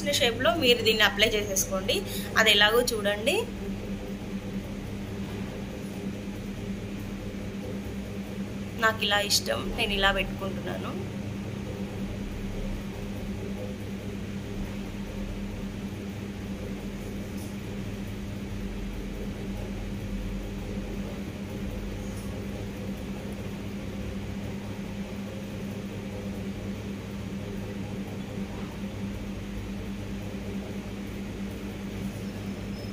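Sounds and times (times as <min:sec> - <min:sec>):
ceiling fan humming: 0:00.0 - 0:32.9.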